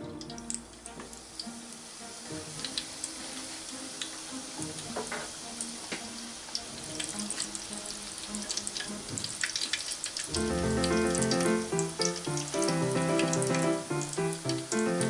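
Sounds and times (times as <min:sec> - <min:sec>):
background music: 0:00.0 - 0:15.0
fish sizzling in hot oil: 0:00.2 - 0:15.0.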